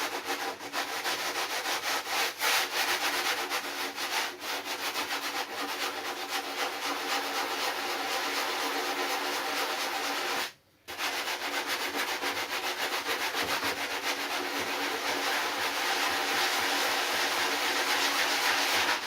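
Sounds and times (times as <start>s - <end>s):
sanding pad rubbing foam: 0.0s - 19.0s.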